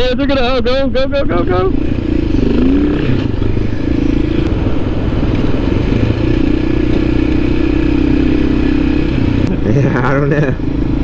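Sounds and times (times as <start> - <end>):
motorcycle engine running: 0.0 - 11.0
rushing wind: 1.2 - 11.0.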